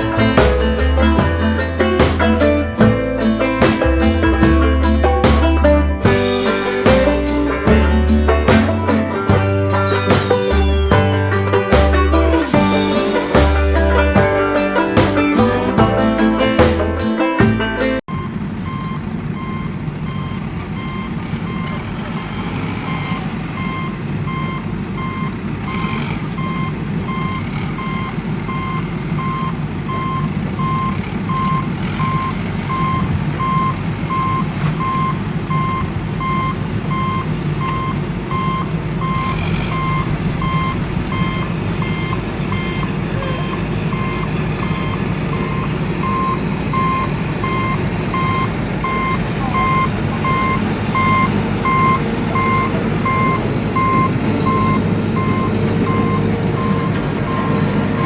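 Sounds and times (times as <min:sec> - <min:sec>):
diesel engine rumble: 0:00.0 - 0:58.0
reversing alarm beeping: 0:06.2 - 0:15.4, 0:18.0 - 0:58.0.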